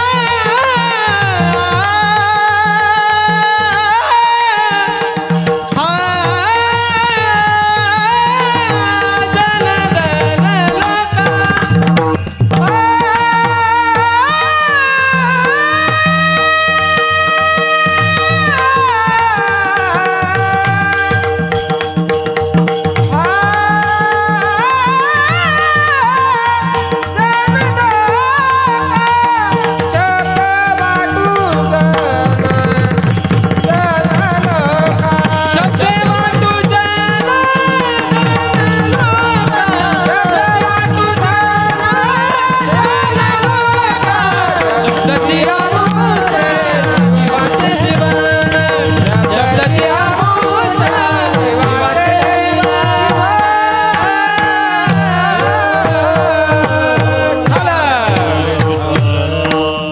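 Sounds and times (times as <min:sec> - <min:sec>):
mridang drumming: 0:00.0 - 0:59.9
person singing: 0:00.0 - 0:59.9.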